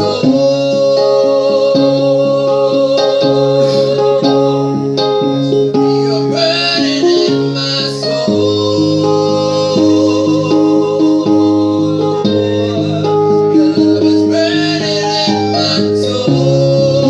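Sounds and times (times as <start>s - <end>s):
guitar playing chords: 0.0s - 17.0s
keyboard playing chords: 0.0s - 17.0s.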